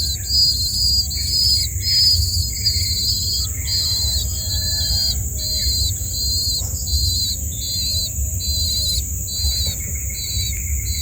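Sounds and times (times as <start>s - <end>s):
cricket chirping: 0.0s - 11.0s
high-pitched insect drone: 0.0s - 11.0s.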